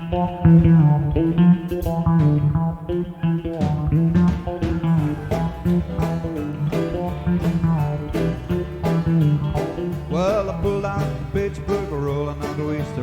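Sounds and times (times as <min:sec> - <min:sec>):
bass guitar: 0:00.0 - 0:13.0
drums: 0:00.0 - 0:13.0
plucked electric guitar riff: 0:00.0 - 0:13.0.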